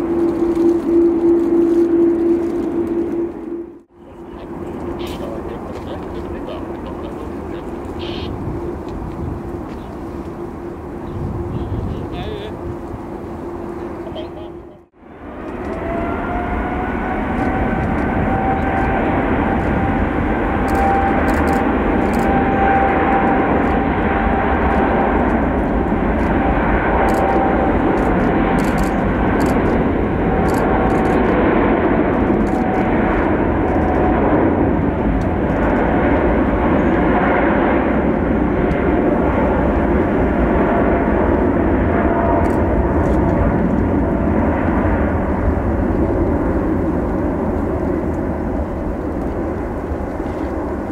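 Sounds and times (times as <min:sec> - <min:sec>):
jet engine whine: 0:00.0 - 0:50.9
jet engines rumbling: 0:00.0 - 0:50.9.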